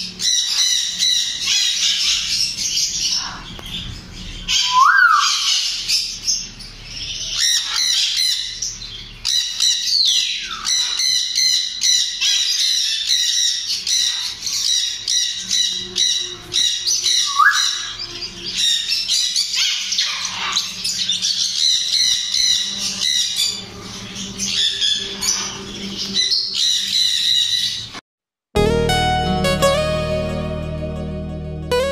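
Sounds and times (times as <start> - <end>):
parrots squawking and chirping: 0.0 - 28.0.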